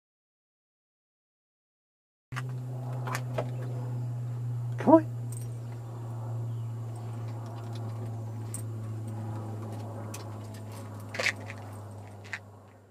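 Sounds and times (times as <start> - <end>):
steady low hum: 2.4 - 12.9.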